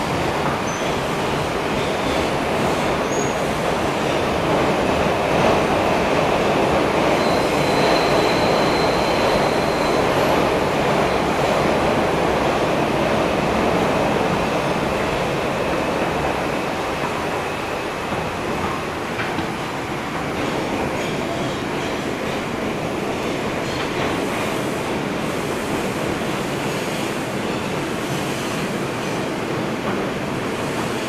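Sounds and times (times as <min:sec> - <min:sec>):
subway wheels rumbling on rail: 0:00.0 - 0:31.0.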